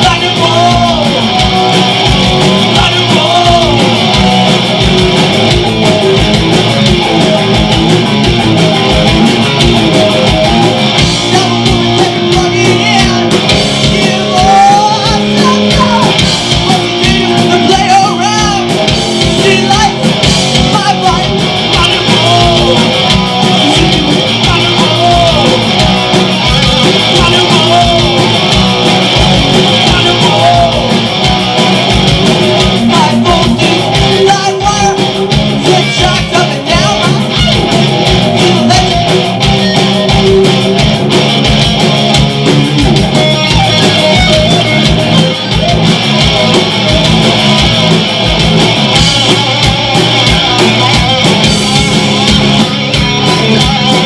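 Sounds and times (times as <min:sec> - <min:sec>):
bass guitar: 0:00.0 - 0:54.0
drums: 0:00.0 - 0:54.0
electric guitar: 0:00.0 - 0:54.0.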